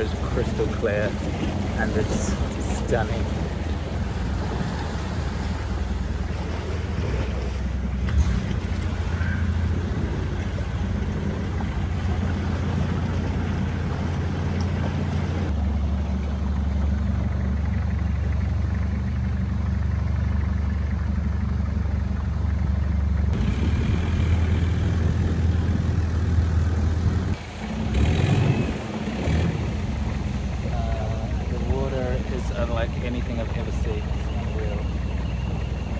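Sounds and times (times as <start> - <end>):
boat engine droning: 0.0 - 35.9.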